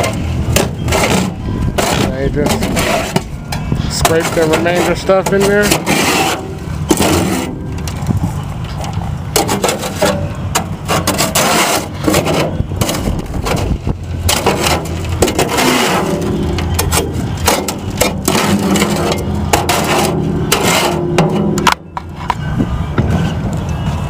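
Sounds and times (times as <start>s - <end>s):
low engine hum: 0.0s - 5.3s, 6.4s - 11.1s, 11.8s - 24.0s
shovel scraping concrete: 0.0s - 7.6s, 9.4s - 21.6s.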